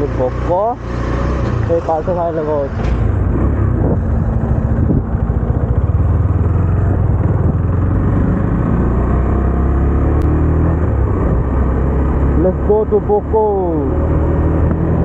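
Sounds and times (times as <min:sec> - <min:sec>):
motorcycle engine under throttle: 0:00.0 - 0:15.0
road noise: 0:00.0 - 0:15.0.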